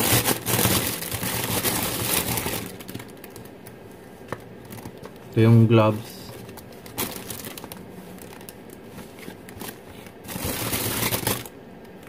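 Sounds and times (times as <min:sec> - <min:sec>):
plastic packaging crinkling: 0:00.0 - 0:05.4, 0:06.1 - 0:11.6.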